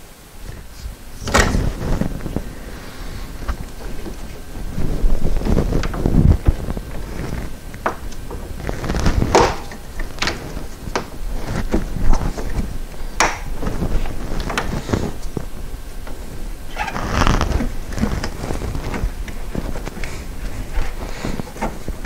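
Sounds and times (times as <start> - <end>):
rubber hose rubbing on metal: 1.6 - 22.0.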